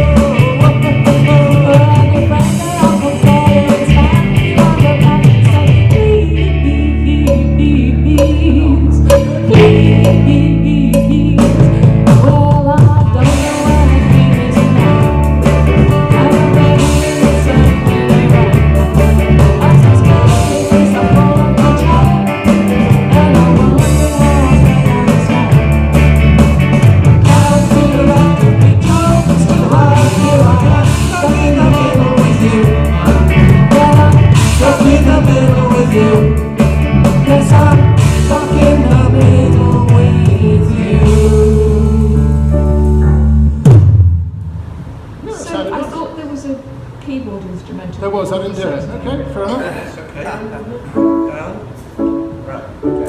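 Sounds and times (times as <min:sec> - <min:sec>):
rock band with singer: 0:00.0 - 0:44.0.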